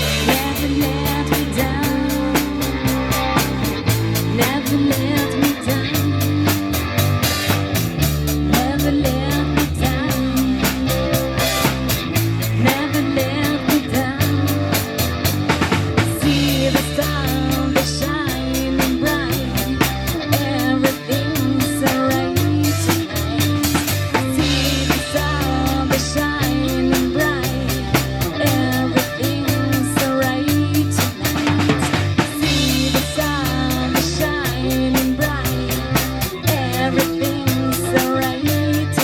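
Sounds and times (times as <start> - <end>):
bass line: 0.0 - 39.0
drum kit beat: 0.0 - 39.0
guitar: 0.0 - 39.0.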